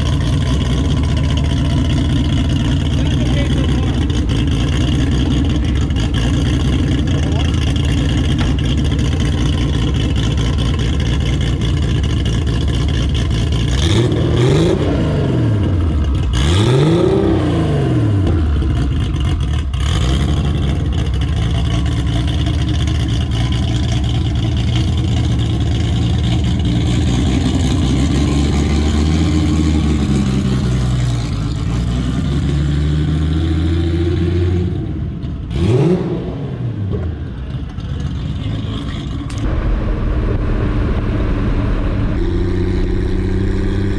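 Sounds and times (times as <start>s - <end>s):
turbocharged car engine revving: 0.0s - 34.8s, 35.5s - 43.9s.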